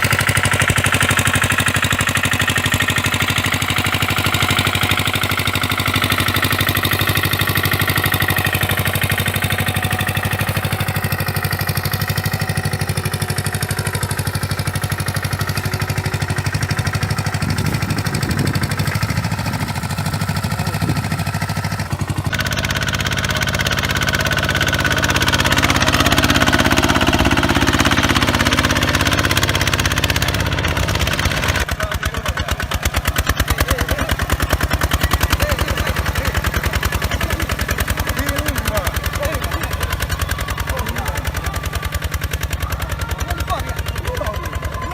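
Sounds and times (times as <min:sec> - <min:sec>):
walk-behind tractor engines running: 0:00.0 - 0:44.9.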